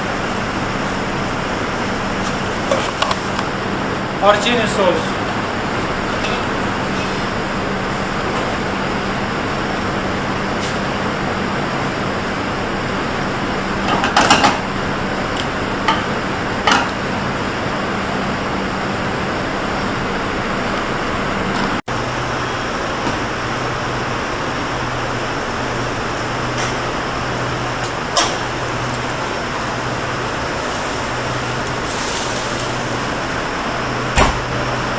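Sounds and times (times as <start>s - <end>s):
gas range and ventilation rushing: 0.0s - 34.9s.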